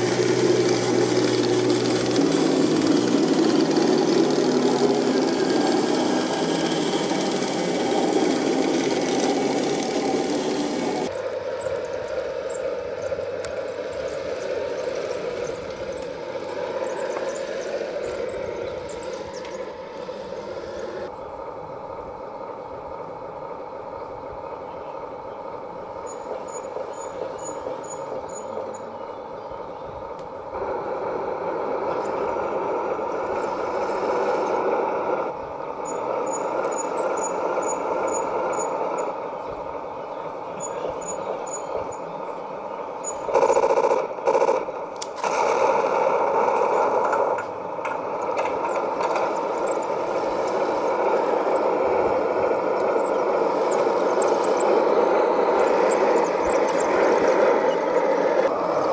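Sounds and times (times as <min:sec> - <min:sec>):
model tank motors and tracks running: 0:00.0 - 0:58.9.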